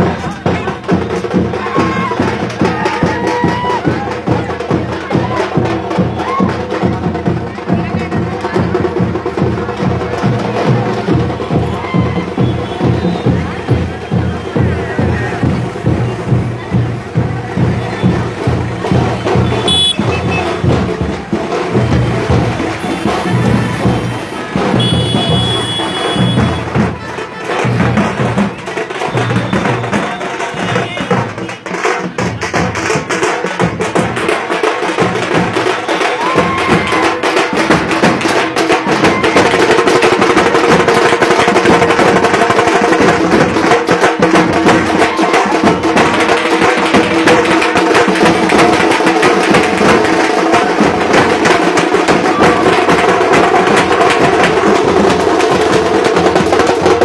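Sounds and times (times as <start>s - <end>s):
barrel drums beating fast: 0.0s - 57.0s.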